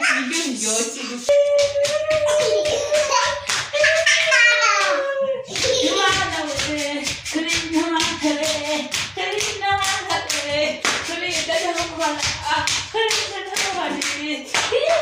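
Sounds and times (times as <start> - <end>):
voices singing: 0.0 - 15.0
hand-clapping: 1.3 - 15.0.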